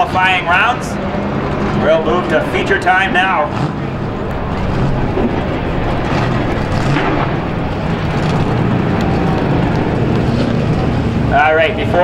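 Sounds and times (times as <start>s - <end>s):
stock car engines rumbling: 0.0s - 12.0s.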